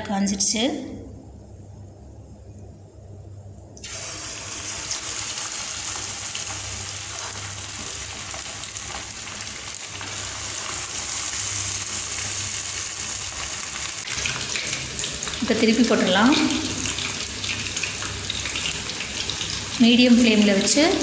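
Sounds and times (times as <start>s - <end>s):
chicken deep-frying in oil: 3.8s - 21.0s.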